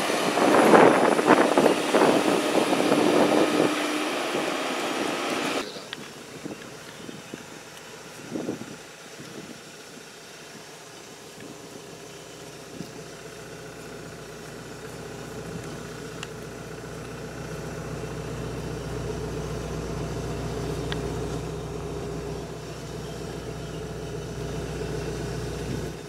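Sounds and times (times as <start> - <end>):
excavator engine idling: 0.0 - 26.0.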